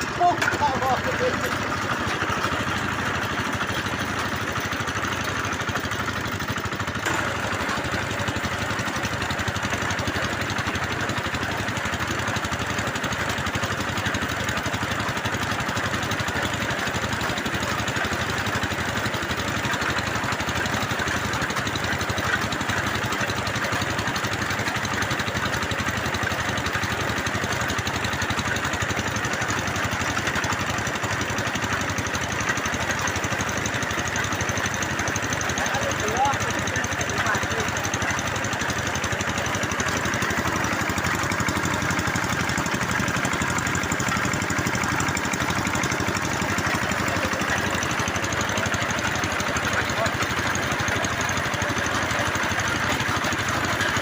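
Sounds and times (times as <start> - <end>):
drilling machine engine running: 0.0 - 54.0.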